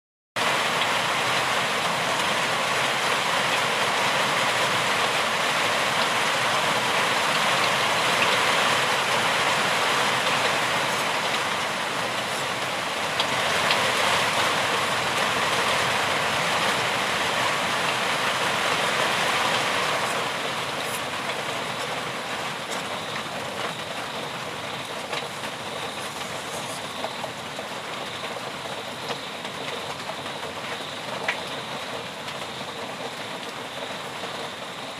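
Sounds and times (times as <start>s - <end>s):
dense rainfall: 0.4s - 34.9s.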